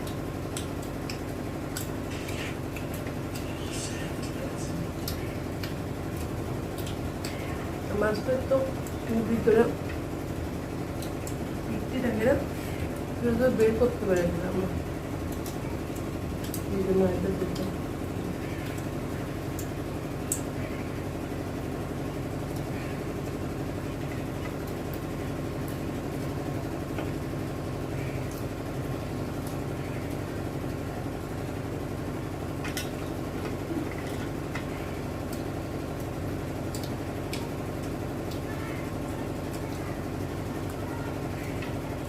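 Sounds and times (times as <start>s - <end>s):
people eating by hand: 0.0s - 42.0s
steady mechanical hum: 0.0s - 42.0s.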